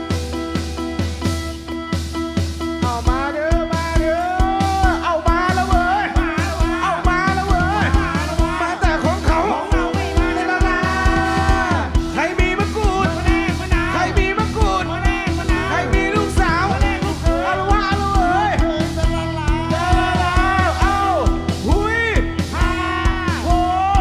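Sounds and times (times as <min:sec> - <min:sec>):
lead melody with pitch bends: 0:00.0 - 0:24.0
live band playing: 0:00.0 - 0:24.0.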